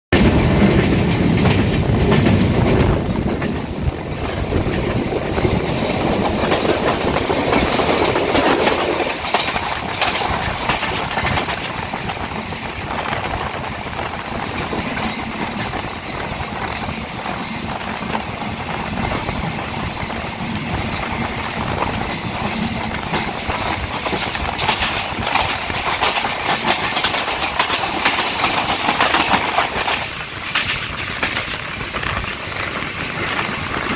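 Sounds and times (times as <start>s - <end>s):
train wheels rumbling on rail: 0.1s - 33.9s
clatter over rail joints: 0.2s - 33.9s.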